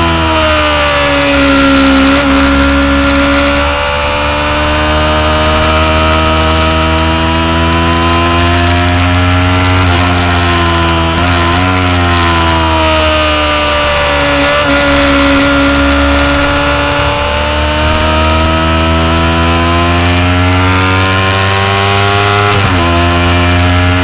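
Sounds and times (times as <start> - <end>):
motorcycle engine revving high: 0.0 - 24.0.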